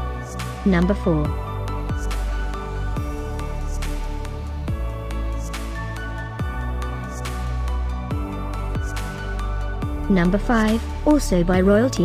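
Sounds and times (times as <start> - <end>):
sustained chords over deep beat: 0.0 - 12.0.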